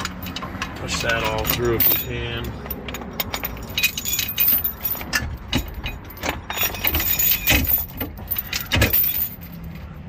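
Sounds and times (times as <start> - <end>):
metal chain rattling against wheel: 0.0 - 10.0.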